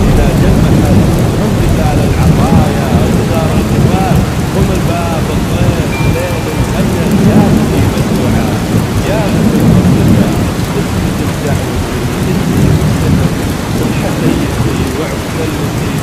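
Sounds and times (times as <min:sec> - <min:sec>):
deep rolling thunder: 0:00.0 - 0:16.0
heavy rain: 0:00.0 - 0:16.0.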